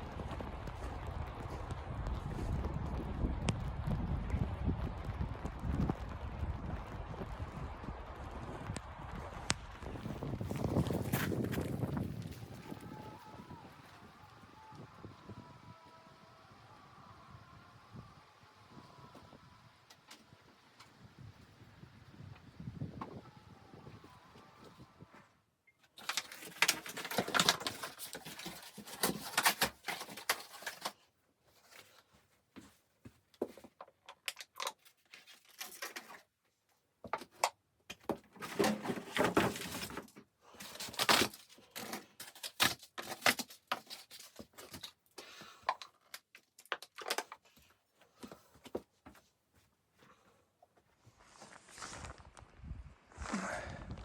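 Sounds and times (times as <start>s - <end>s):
crackling and rustling: 0.0s - 16.7s, 18.7s - 54.0s.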